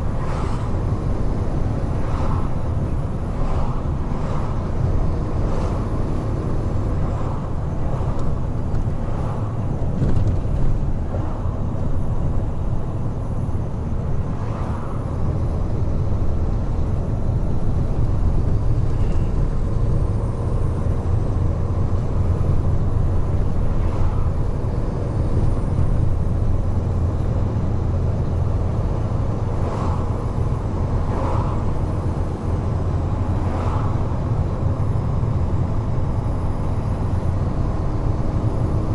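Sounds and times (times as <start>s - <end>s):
truck engine and tyre rumble: 0.0s - 38.9s.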